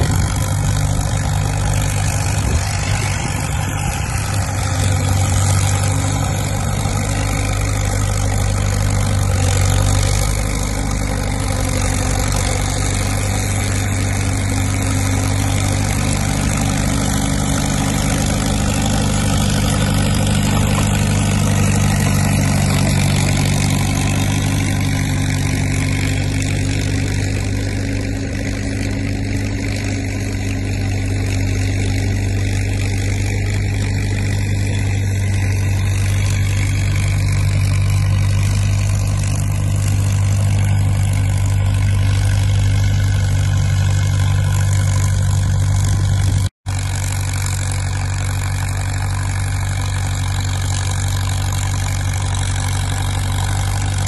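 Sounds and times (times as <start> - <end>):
crawler tractor engine running: 0.0 - 54.0.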